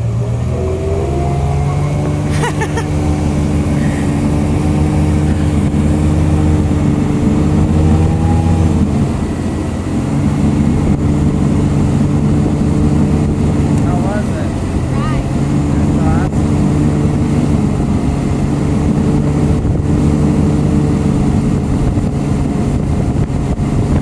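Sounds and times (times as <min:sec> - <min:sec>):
motorboat engine running: 0:00.0 - 0:24.0
water rushing: 0:00.0 - 0:24.0.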